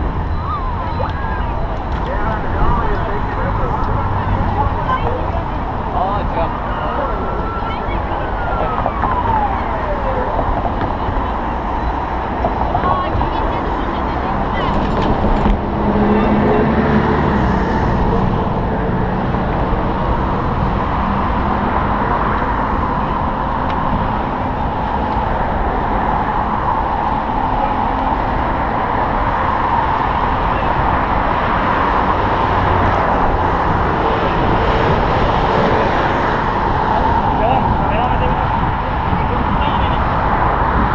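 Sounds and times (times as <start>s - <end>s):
traffic rumble: 0.0s - 40.9s.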